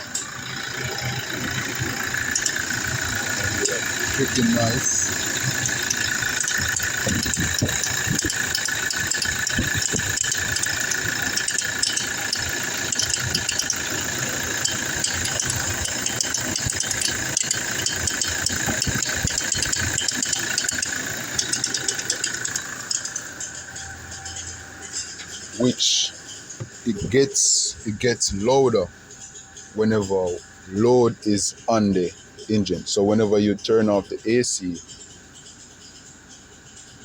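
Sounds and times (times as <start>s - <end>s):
rapid clicking rattle: 0.0s - 33.0s
engine idling: 0.0s - 37.0s.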